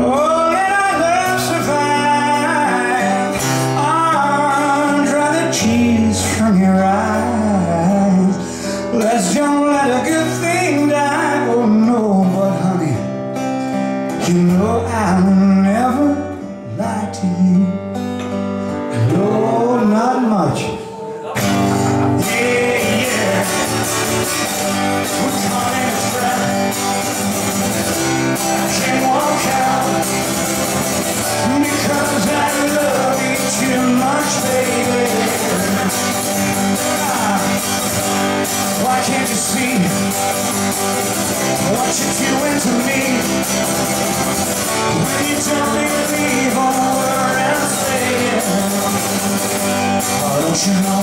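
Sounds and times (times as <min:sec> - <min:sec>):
man singing: 0:00.0 - 0:13.2, 0:14.1 - 0:51.0
acoustic guitar strumming: 0:00.0 - 0:51.0.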